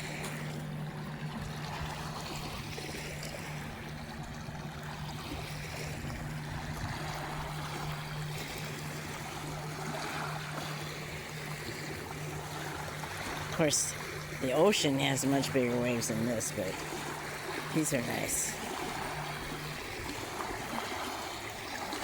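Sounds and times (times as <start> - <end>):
steady low hum: 0.0 - 22.0
waves lapping against rocky shore: 0.0 - 22.0.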